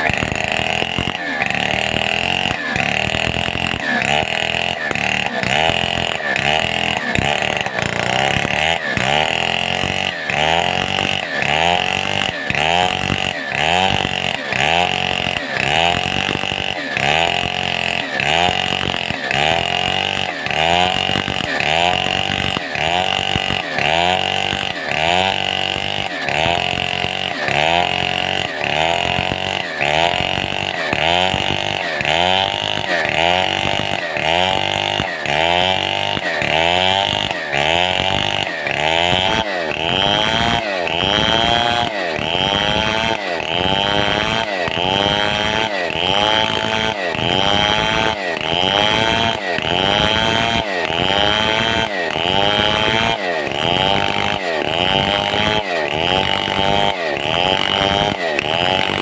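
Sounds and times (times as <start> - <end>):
chainsaw cutting under load: 0.0 - 59.0.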